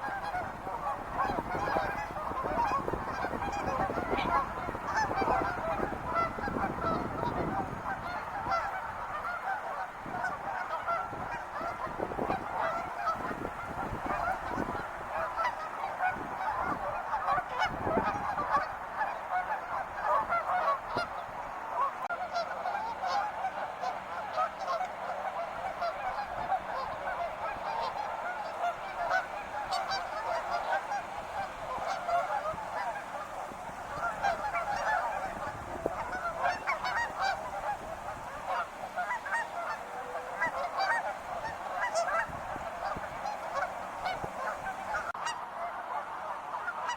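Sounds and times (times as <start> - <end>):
geese honking: 0.0 - 46.9.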